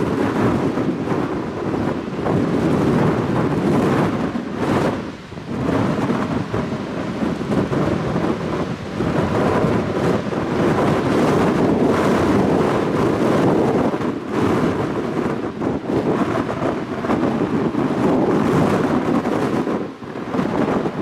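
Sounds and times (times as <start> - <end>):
jet engine rumbling: 0.0 - 21.0
wind buffeting microphone: 0.0 - 21.0.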